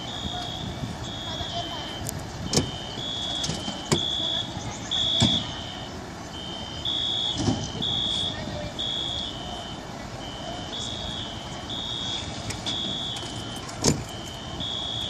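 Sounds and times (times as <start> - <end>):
fire alarm two-tone warble: 0.0 - 15.0.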